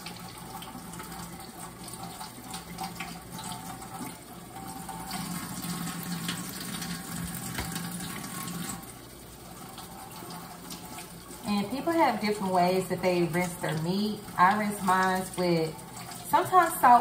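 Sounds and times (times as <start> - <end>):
kitchen faucet running: 0.0 - 17.0.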